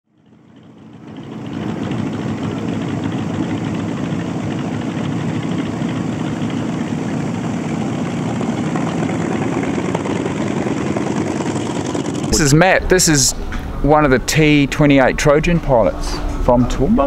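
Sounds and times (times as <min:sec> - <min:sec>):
radial piston engine running: 0:00.1 - 0:16.8.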